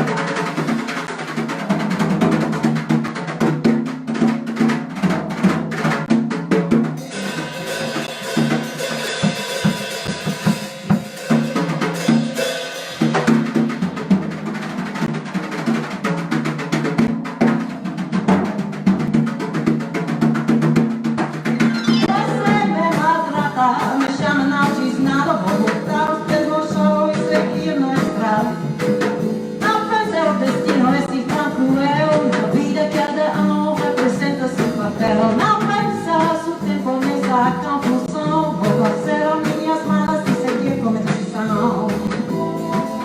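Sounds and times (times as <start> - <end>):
live jazz band playing: 0.0 - 20.1, 20.8 - 43.0.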